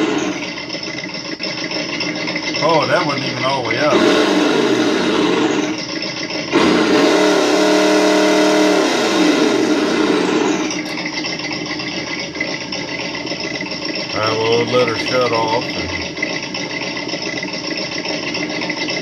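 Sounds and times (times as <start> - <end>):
simulated engine sound from speaker: 0.0 - 19.0.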